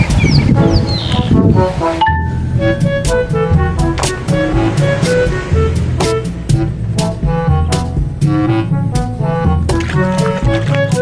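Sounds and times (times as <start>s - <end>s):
upbeat jazzy music with horns: 0.0s - 11.0s.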